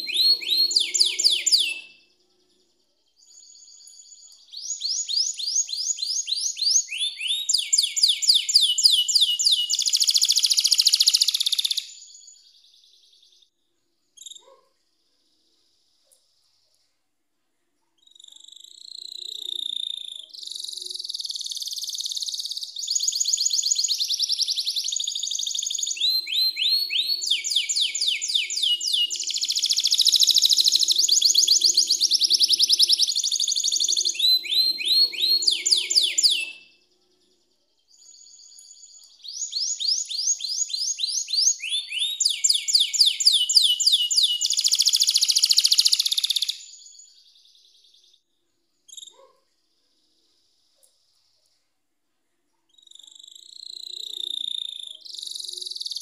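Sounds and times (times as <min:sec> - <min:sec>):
canary singing trills: 0:00.0 - 0:13.4, 0:14.2 - 0:14.7, 0:17.9 - 0:48.2, 0:48.9 - 0:49.4, 0:52.7 - 0:56.0.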